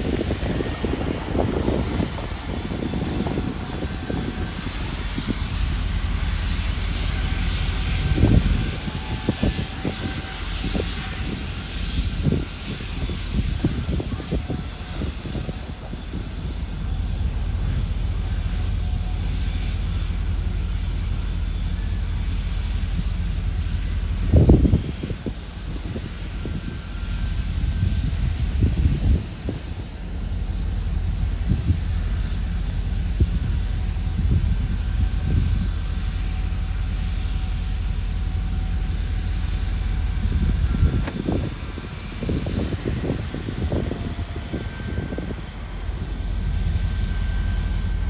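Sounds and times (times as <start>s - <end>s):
steam locomotive rumbling: 0.0s - 48.0s.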